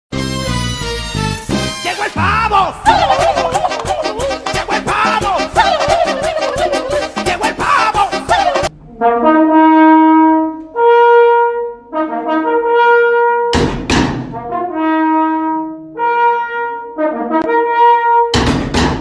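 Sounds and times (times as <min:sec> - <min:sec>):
brass music: 0:00.1 - 0:13.6, 0:14.2 - 0:18.4.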